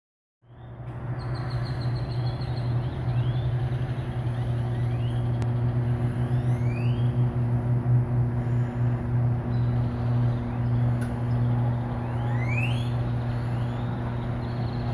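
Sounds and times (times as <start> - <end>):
corn roaster running: 2.7 - 14.9.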